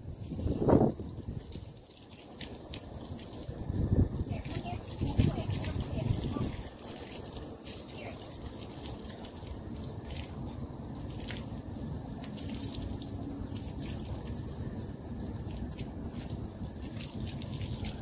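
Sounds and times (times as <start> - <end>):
water spraying from hose: 0.0 - 18.0
water dripping on wet tiles: 0.9 - 18.0.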